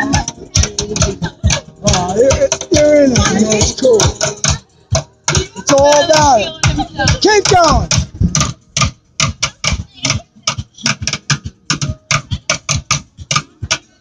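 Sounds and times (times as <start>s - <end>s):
drum hits: 0.0s - 13.9s.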